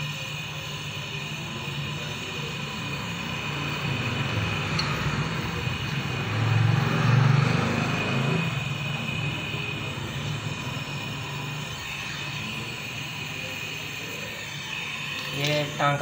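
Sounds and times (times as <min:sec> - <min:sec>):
torch flame burning: 0:00.0 - 0:16.0.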